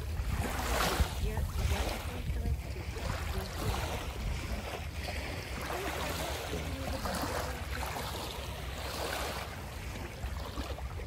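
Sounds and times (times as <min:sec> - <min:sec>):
small waves lapping: 0:00.0 - 0:11.0
wind on microphone: 0:00.0 - 0:11.0.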